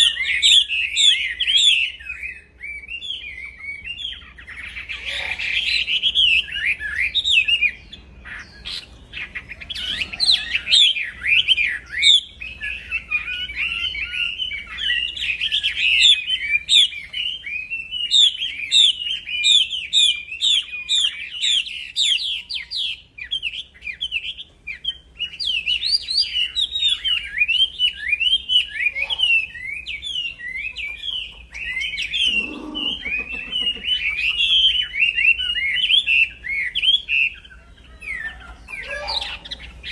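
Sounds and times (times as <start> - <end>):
songbird singing high chirps: 0.0 - 39.9.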